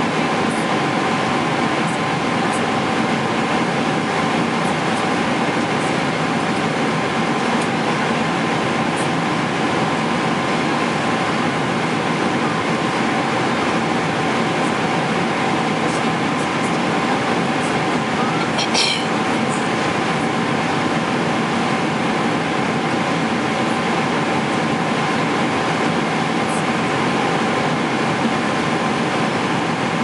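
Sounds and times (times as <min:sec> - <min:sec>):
airplane cabin noise: 0:00.0 - 0:30.0.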